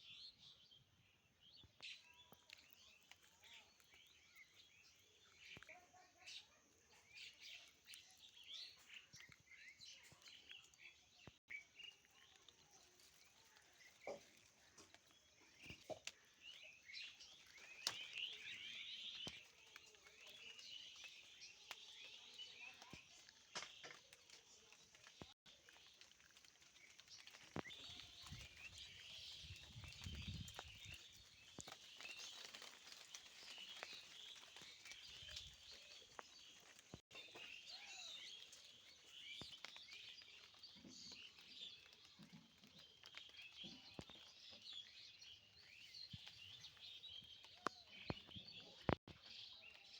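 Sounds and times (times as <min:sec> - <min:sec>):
faint birds chirping: 0:00.0 - 0:49.9.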